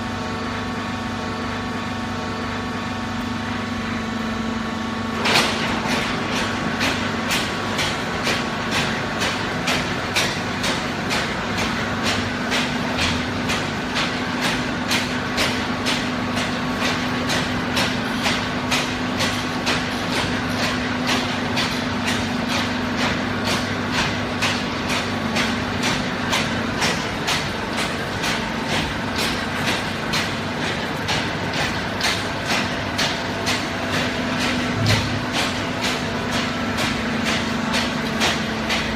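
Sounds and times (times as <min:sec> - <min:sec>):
baler machinery hum: 0:00.0 - 0:38.9
sharp regular clatter: 0:05.2 - 0:38.9.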